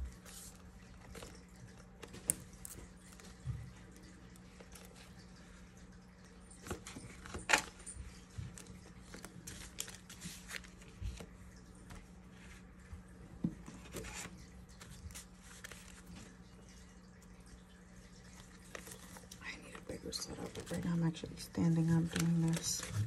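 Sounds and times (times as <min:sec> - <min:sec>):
paper and plastic rustling: 0:00.0 - 0:06.0, 0:06.6 - 0:16.8, 0:18.2 - 0:23.0.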